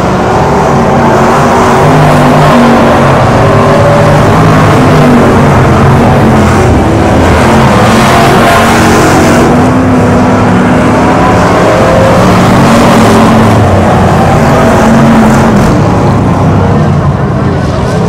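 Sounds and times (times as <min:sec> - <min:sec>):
race car engines at full throttle: 0:00.0 - 0:18.0.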